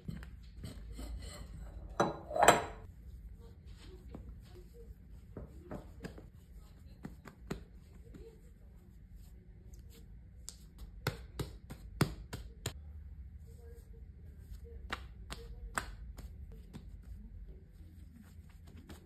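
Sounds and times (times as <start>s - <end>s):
low steady hum: 0.0s - 19.0s
hands patting dough: 2.9s - 19.0s.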